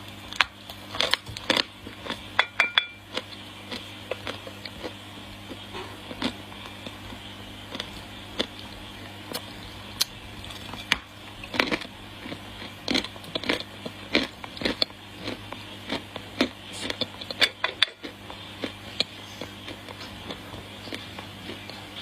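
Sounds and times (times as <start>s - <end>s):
dry clay crunching when chewed: 0.0s - 2.4s, 3.0s - 22.0s
low steady hum: 0.0s - 22.0s.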